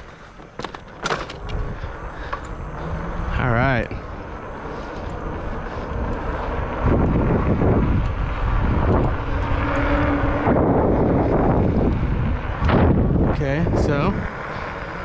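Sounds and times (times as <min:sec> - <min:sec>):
bike tyres road noise: 0:00.0 - 0:15.0
wind rushing over microphone: 0:00.0 - 0:15.0.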